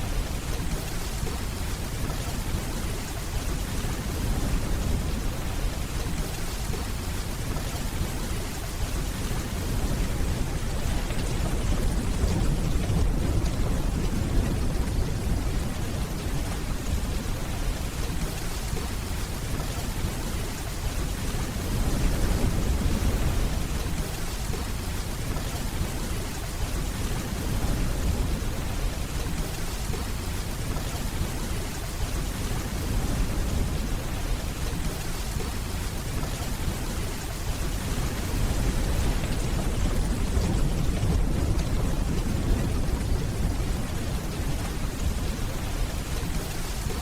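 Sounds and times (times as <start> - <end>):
distant thunder rumble: 0.0 - 47.0
heavy rainfall: 0.0 - 47.0.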